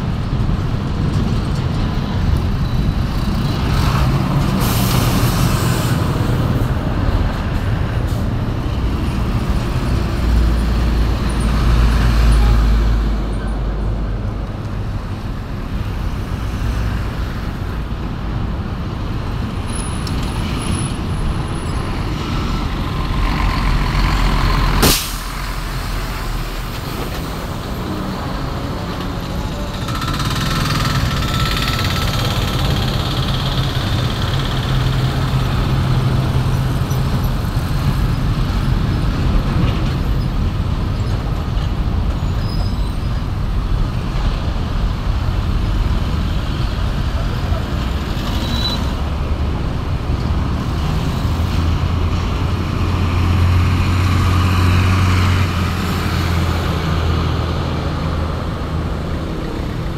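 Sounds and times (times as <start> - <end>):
steady engine hum: 0.0 - 42.5, 43.1 - 59.9
road traffic passing: 0.0 - 59.9.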